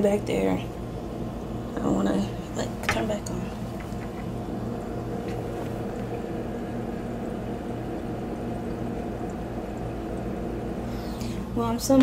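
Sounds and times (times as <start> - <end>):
low machine hum with tones: 0.0 - 12.0.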